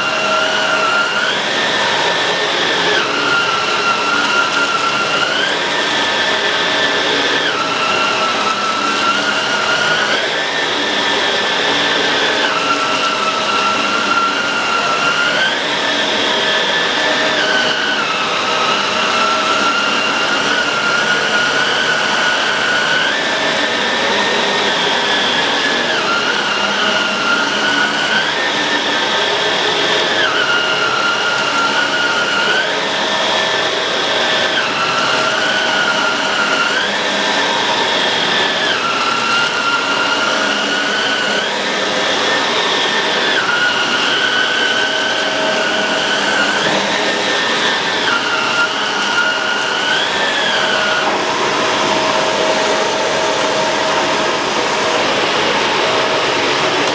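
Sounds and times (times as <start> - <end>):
vacuum cleaner motor whine: 0.0 - 56.9.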